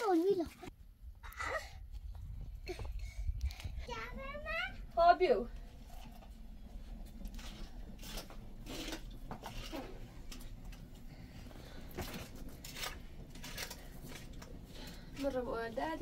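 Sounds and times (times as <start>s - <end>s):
wood fire crackling: 2.6s - 16.0s.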